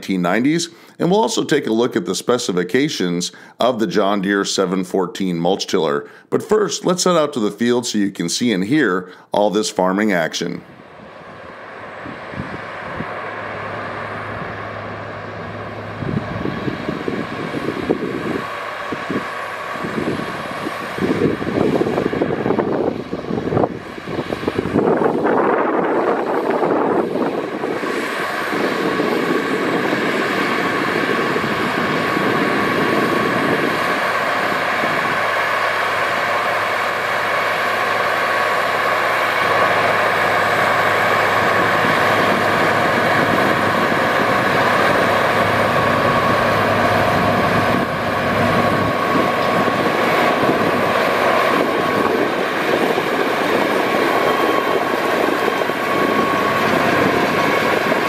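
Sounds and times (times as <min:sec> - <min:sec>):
diesel tractor running under load: 0:10.7 - 0:58.0.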